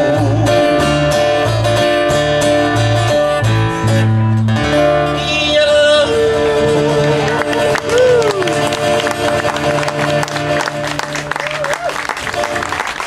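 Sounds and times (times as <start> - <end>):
electric bass line: 0.0 - 12.7
acoustic guitar strumming: 0.0 - 13.0.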